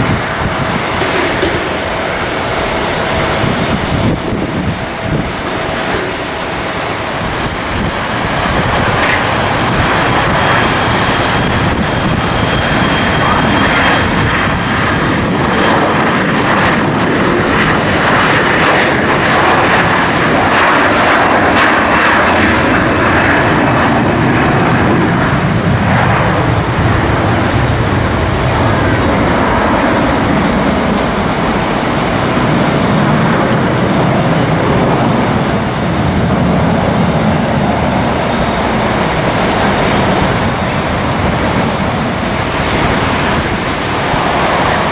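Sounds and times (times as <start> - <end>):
airplane engines running: 0.0 - 44.9.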